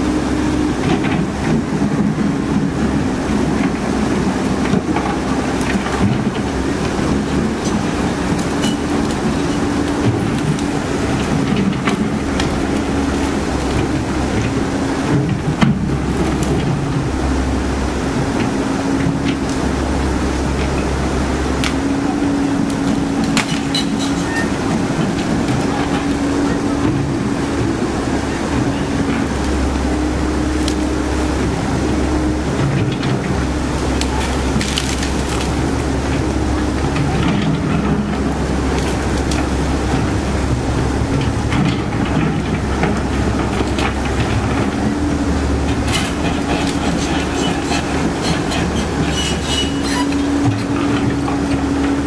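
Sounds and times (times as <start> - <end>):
excavator diesel engine under load: 0.0 - 52.0.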